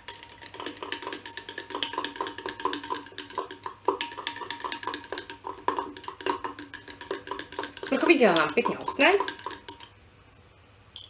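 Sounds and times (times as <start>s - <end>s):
glass rod clinking in beaker: 0.0s - 9.9s
louder knock on glass: 0.0s - 9.9s.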